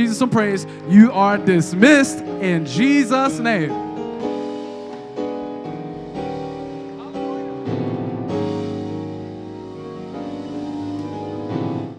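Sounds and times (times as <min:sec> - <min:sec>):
piano playing slow chords: 0:00.0 - 0:11.9.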